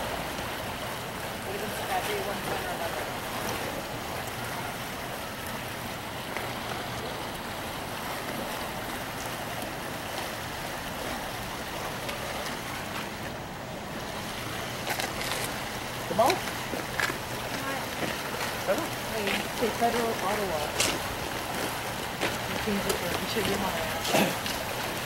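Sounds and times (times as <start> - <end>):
water pouring into harbour: 0.0 - 25.0.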